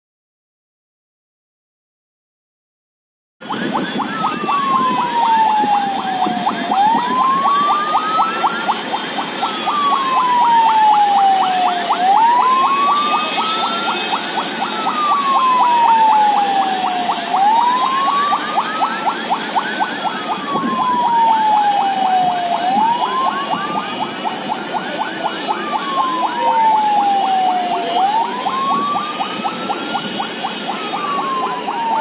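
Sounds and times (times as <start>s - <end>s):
wailing siren: 3.4s - 32.0s.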